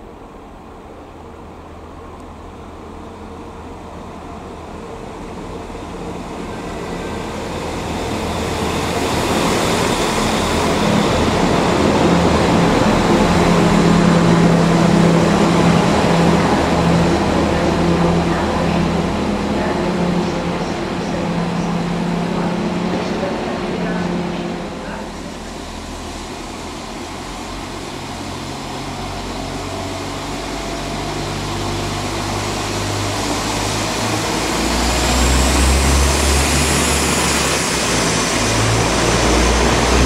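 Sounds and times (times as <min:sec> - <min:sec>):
train rumble and engine hum: 0:00.0 - 0:40.0.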